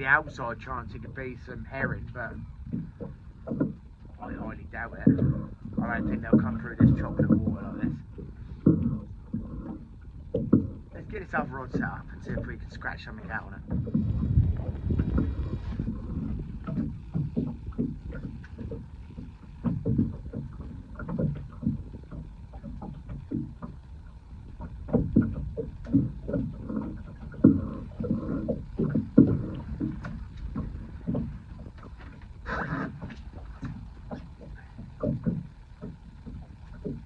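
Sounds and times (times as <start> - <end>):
waves slapping against boat hull: 0.0 - 37.0.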